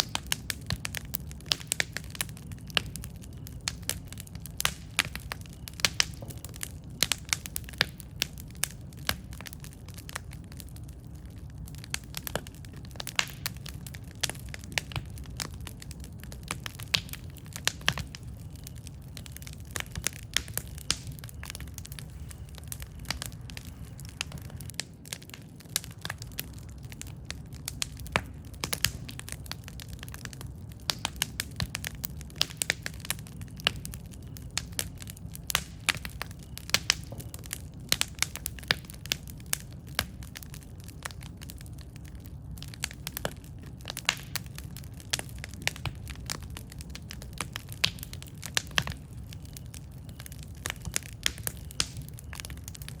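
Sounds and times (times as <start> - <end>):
burning wood crackling and popping: 0.0 - 53.0
campfire rumble: 0.0 - 53.0.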